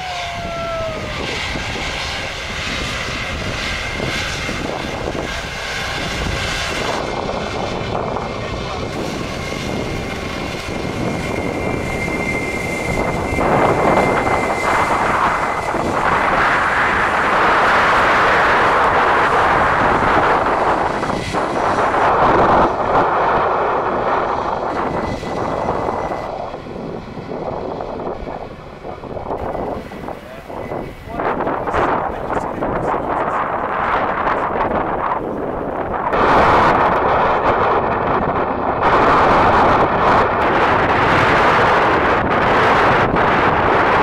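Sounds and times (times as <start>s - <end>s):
airliner engines roaring past: 0.0s - 44.0s
high whine: 0.0s - 44.0s.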